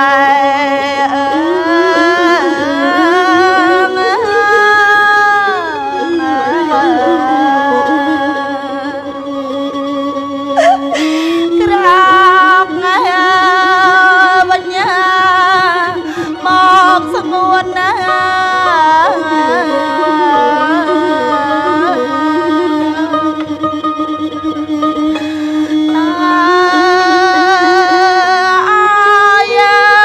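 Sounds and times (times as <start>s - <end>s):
ornamented singing voice: 0.0s - 23.6s, 25.7s - 30.0s
steady accompanying drone: 1.4s - 28.7s.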